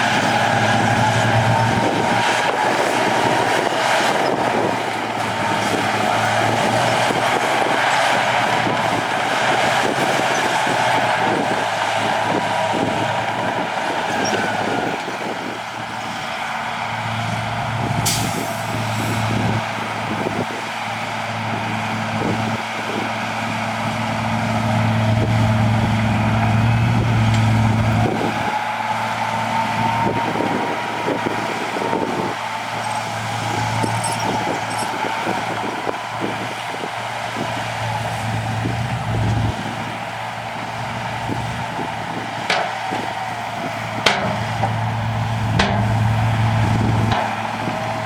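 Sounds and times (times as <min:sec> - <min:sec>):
heavy diesel machinery under load: 0:00.0 - 0:48.0.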